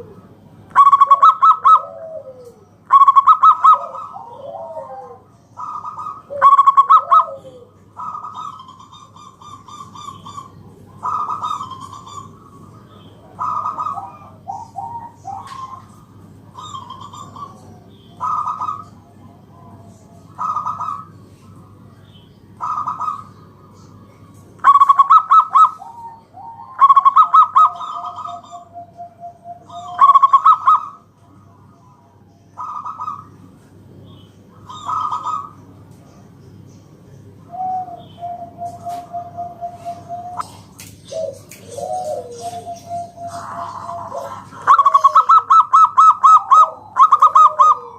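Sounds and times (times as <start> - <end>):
dove cooing: 0.0 - 21.9, 22.5 - 31.6, 32.6 - 33.6, 34.5 - 35.8, 37.4 - 47.9.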